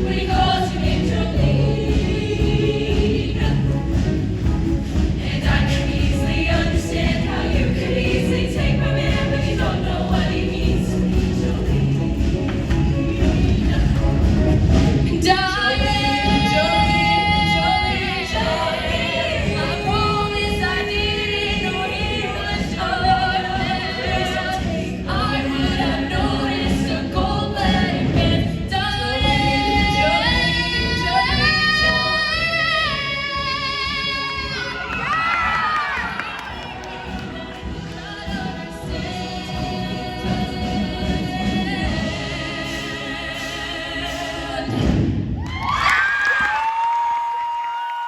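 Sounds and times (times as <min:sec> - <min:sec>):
instrumental backing music: 0:00.0 - 0:45.2
choir singing in harmony: 0:00.0 - 0:45.4.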